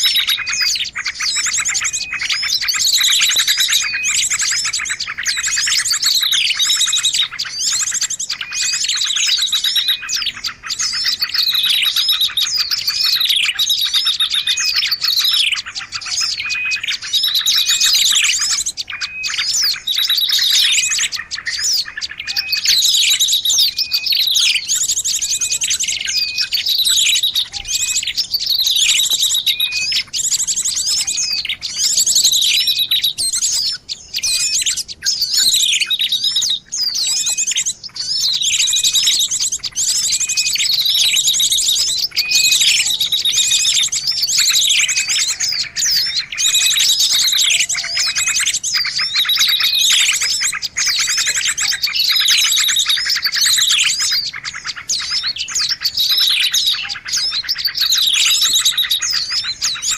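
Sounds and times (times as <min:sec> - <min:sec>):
chorus of birds chirping: 0:00.0 - 0:59.9.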